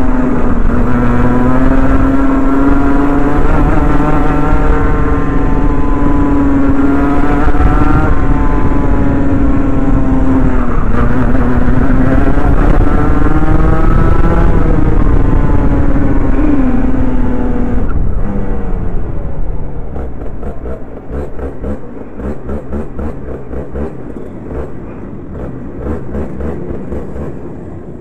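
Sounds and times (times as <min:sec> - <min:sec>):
kart engine winding down: 0:00.0 - 0:27.7.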